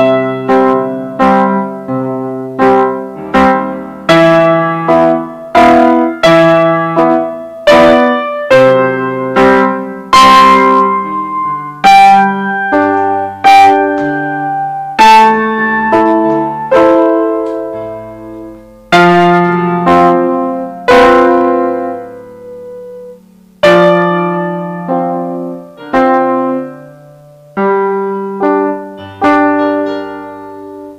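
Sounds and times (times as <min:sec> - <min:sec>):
digital piano playing a waltz: 0:00.0 - 0:30.9.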